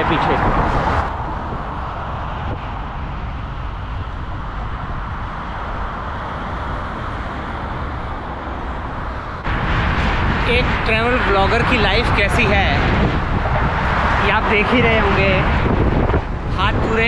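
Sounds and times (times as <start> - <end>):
highway traffic: 0.0 - 17.0
wind buffeting microphone: 0.0 - 17.0.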